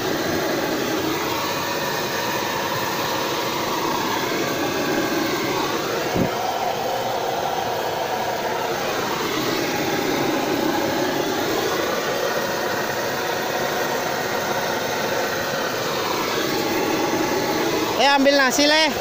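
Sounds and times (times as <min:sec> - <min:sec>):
oil bubbling in a wok: 0:00.0 - 0:18.0
gas burner flame roaring: 0:00.0 - 0:19.0.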